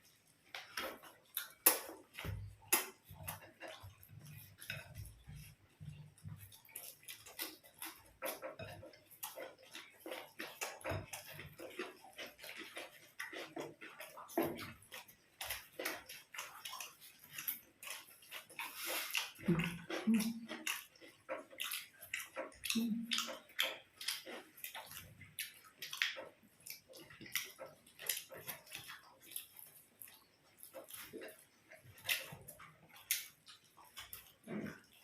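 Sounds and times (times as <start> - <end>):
small clicks and crackles: 0.0 - 35.0
wet chewing and lip-smacking: 0.0 - 35.0.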